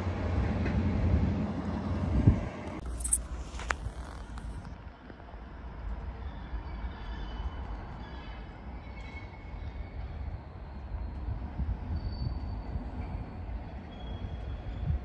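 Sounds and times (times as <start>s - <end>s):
diesel rail vehicle rumbling: 0.0s - 15.0s.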